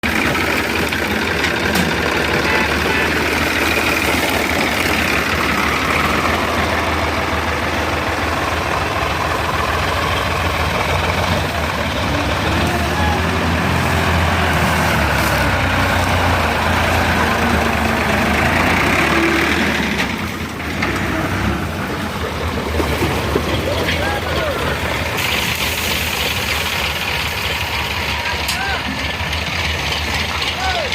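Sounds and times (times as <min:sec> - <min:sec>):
diesel machinery clattering: 0:00.0 - 0:30.9.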